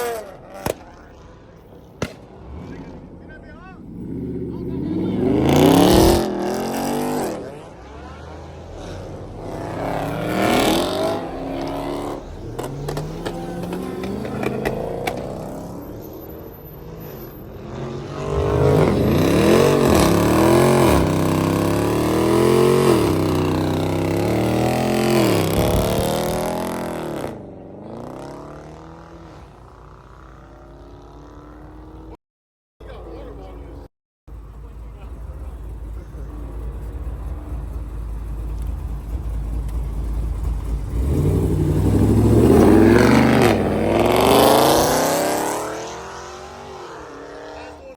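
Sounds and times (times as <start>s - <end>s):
car engine revving: 0.0s - 32.2s, 32.8s - 47.9s.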